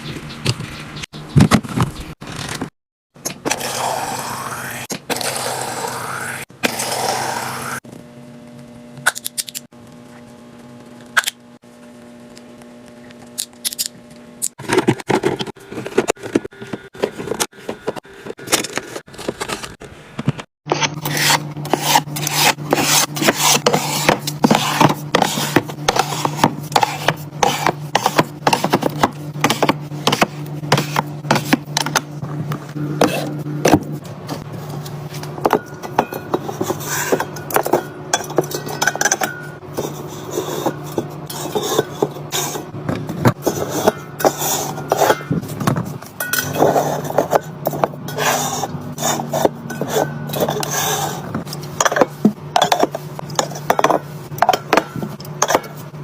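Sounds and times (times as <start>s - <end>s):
steady low hum: 3.5s - 56.0s.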